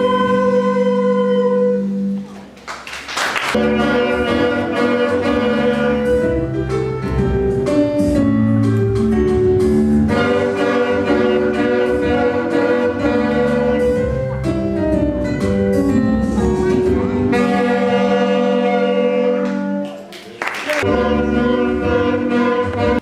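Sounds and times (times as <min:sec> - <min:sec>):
instrumental melody with accompaniment: 0:00.0 - 0:02.6, 0:03.5 - 0:23.0.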